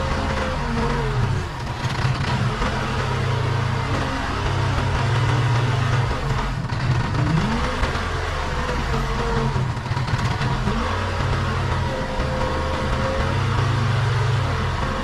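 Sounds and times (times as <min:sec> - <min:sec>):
diesel engine under load: 0:00.0 - 0:15.0
hydraulic whine: 0:00.0 - 0:15.0.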